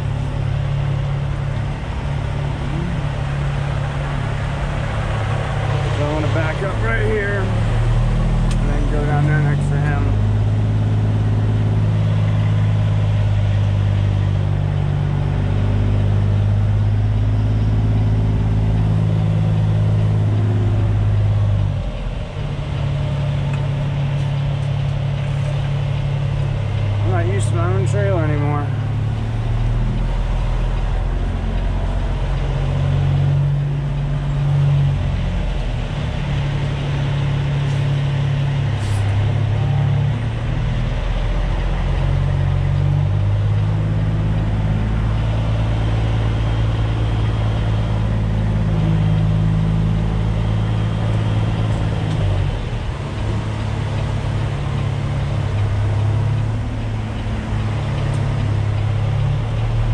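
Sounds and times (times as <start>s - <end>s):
truck diesel engine at low revs: 0.0s - 59.9s.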